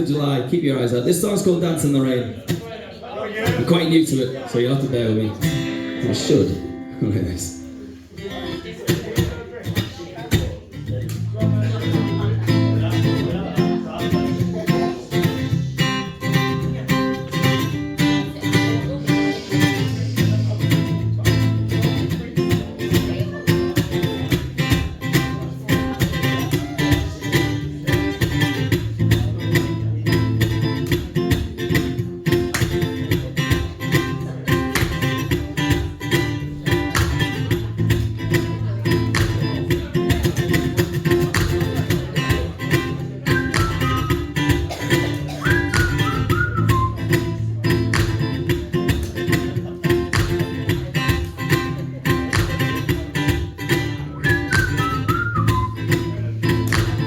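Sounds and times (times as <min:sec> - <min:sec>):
acoustic guitar strumming: 0:03.5 - 0:57.0.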